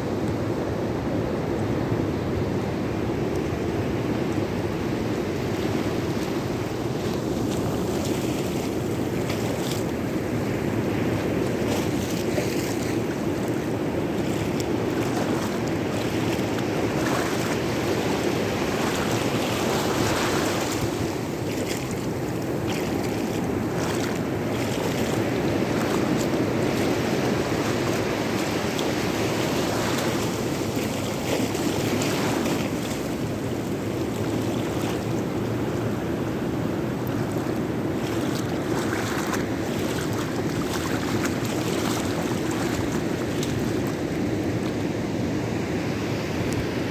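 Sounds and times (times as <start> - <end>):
waves breaking: 0.0 - 46.9
wind buffeting microphone: 0.0 - 46.9.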